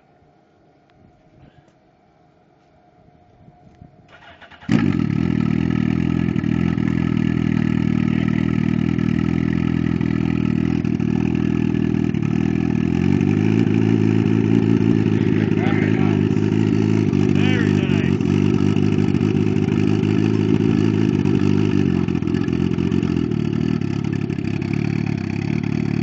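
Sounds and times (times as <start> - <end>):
motorcycle engine idling: 4.1 - 26.0.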